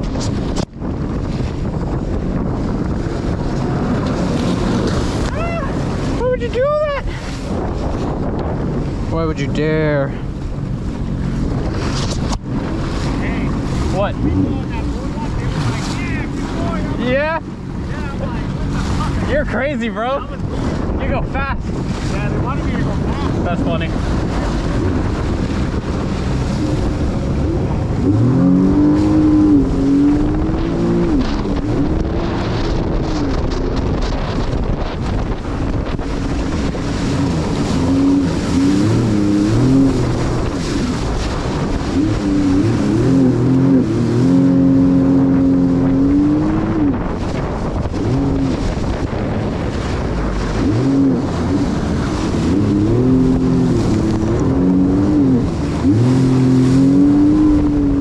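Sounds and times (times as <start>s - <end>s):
constant rushing noise: 0.0s - 58.0s
jet ski engine revving: 0.0s - 58.0s.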